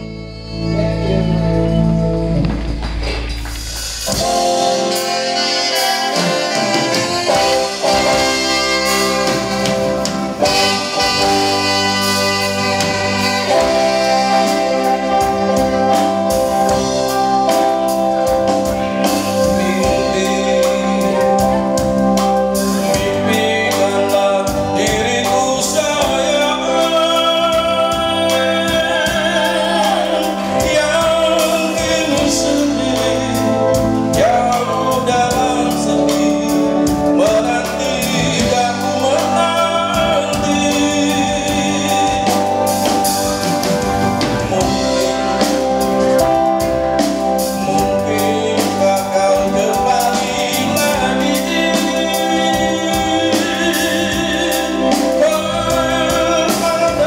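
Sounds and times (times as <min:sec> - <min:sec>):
man singing: 0:00.0 - 0:02.7, 0:04.0 - 0:57.0
live pop band playing: 0:00.0 - 0:57.0.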